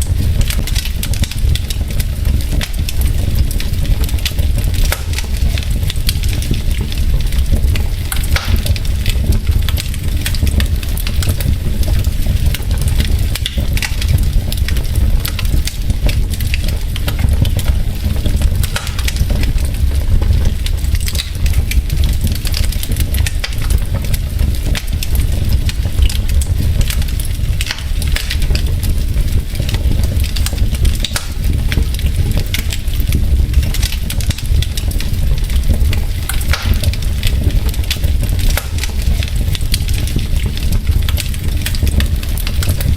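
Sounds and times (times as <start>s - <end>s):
low fire rumble: 0.0s - 42.9s
wood fire crackling and popping: 0.0s - 42.9s.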